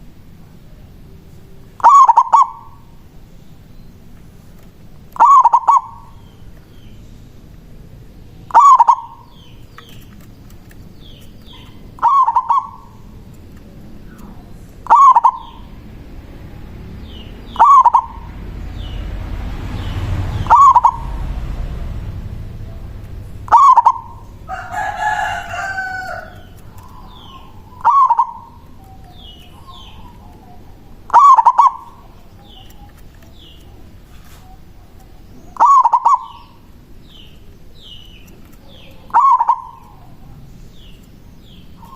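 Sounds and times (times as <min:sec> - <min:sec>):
longer bird call: 0:01.7 - 0:04.1, 0:05.1 - 0:07.2, 0:08.3 - 0:10.2, 0:10.9 - 0:19.1, 0:19.7 - 0:21.5, 0:22.1 - 0:41.9
dove cooing: 0:01.8 - 0:03.0, 0:05.1 - 0:06.5, 0:08.4 - 0:19.0, 0:20.3 - 0:41.9.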